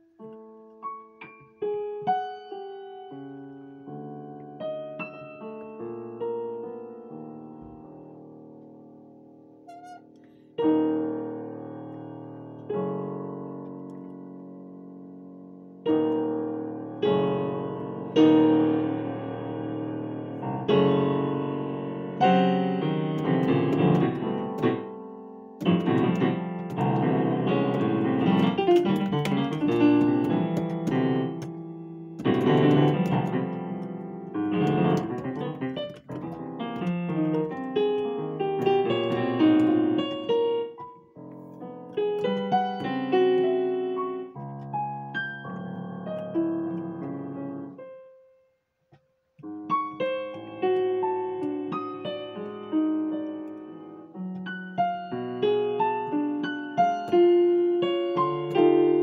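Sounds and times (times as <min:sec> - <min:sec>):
digital piano chords and runs: 0:00.0 - 0:48.1, 0:49.4 - 0:59.0.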